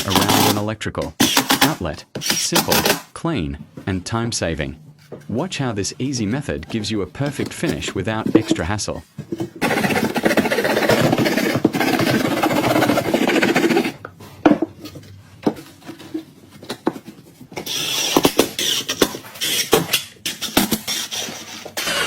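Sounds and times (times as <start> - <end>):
tool scraping drywall: 0.0 - 0.6, 1.2 - 3.0, 5.2 - 14.5, 15.4 - 22.0.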